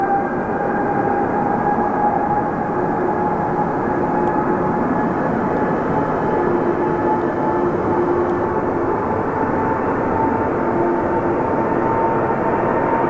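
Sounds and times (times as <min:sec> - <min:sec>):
airliner engines running: 0:00.0 - 0:13.0.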